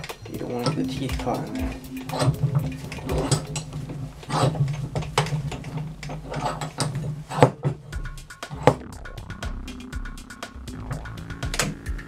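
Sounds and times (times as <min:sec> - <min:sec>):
vise clicks and clanks: 0:00.0 - 0:12.0.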